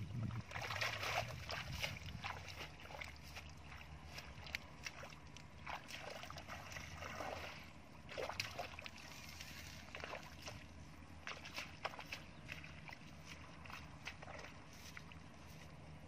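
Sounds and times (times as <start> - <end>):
steady low rumble: 0.0 - 16.0
bare feet splashing in mud: 0.2 - 16.0.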